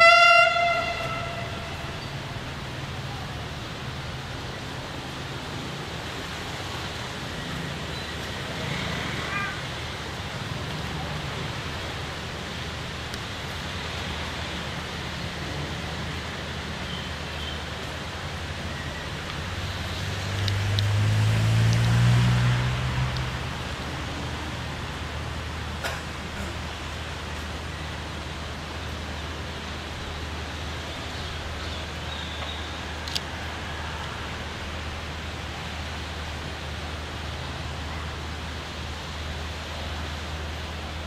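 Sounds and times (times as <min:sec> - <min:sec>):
diesel engine rumbling: 0:00.0 - 0:41.0.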